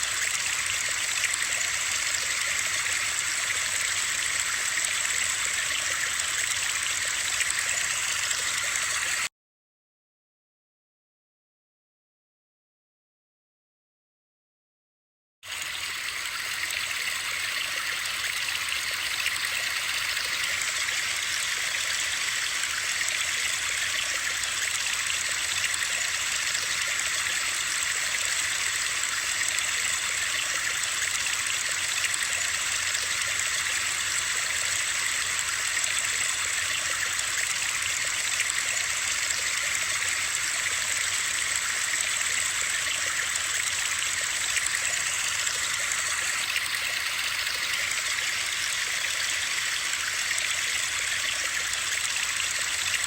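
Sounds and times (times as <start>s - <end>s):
steady hiss of rushing water: 0.0s - 9.3s, 15.5s - 53.0s.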